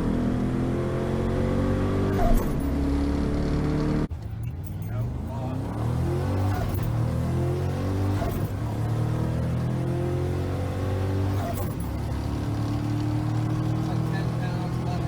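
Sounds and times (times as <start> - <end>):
truck engine at full throttle: 0.0 - 15.0.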